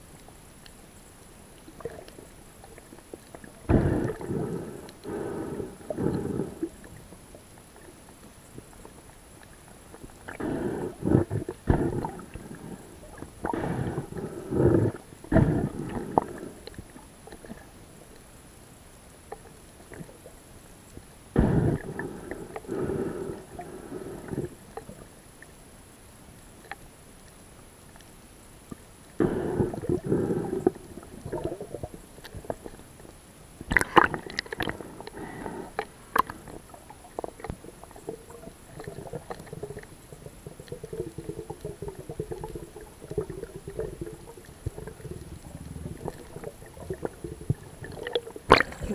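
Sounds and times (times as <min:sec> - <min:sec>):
underwater gurgling bubbles: 0:00.0 - 0:25.6, 0:28.6 - 0:48.9
quiet underwater noise: 0:00.0 - 0:48.9.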